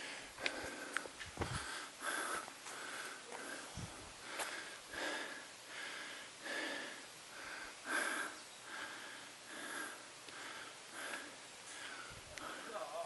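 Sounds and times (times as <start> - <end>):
hard breathing: 0.0 - 13.0.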